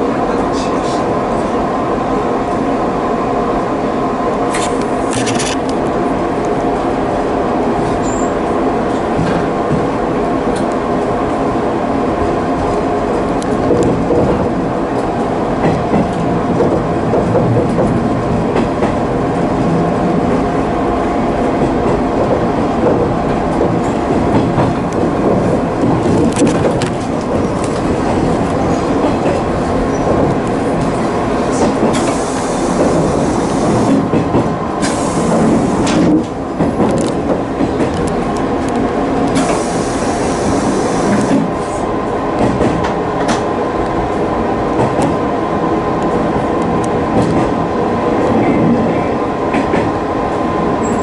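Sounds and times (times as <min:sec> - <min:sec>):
electric train hum: 0:00.0 - 0:51.0
train wheels rumbling: 0:00.0 - 0:51.0.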